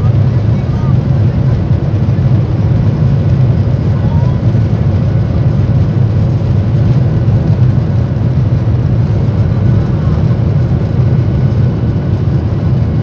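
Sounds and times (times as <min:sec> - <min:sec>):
jet engines at takeoff power: 0:00.0 - 0:13.0
wheels rumbling on runway: 0:00.0 - 0:13.0.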